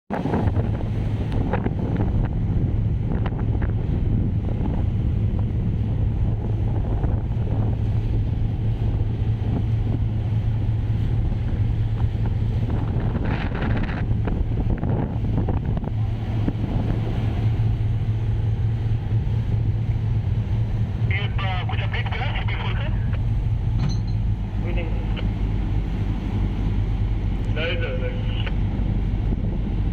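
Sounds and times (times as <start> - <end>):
low engine hum: 0.1 - 29.9
wind buffeting microphone: 0.1 - 29.9.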